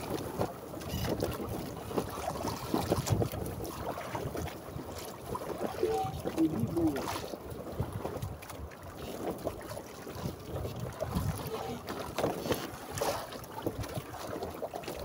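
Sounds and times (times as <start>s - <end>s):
wind buffeting the microphone: 0.0s - 9.4s, 10.1s - 15.0s
water slapping against a hull: 0.0s - 15.0s.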